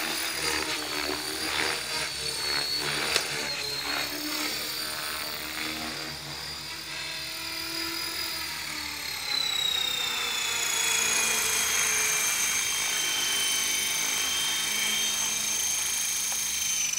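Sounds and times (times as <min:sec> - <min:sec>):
electric motor whine: 0:00.0 - 0:16.9
helicopter rotor noise: 0:00.0 - 0:16.9.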